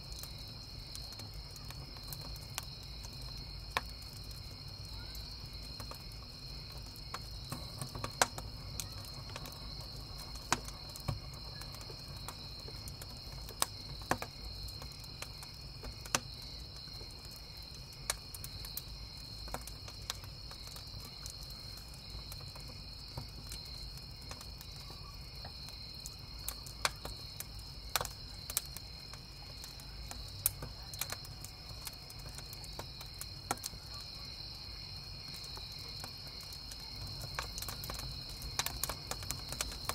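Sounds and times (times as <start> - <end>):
crackling campfire: 0.0 - 39.9
crickets chirping: 0.0 - 39.9
firewood popping: 0.0 - 39.9.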